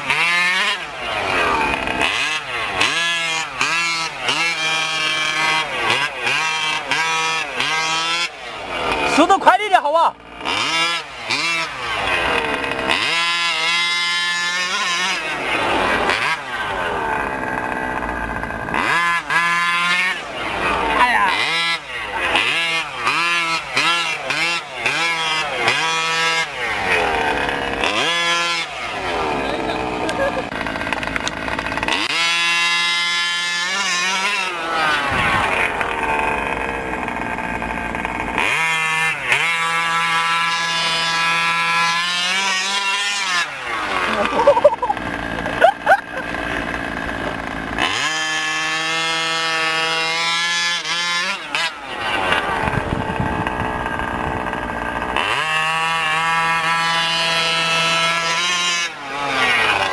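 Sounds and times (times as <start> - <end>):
rc truck engine revving: 0.0 - 59.9.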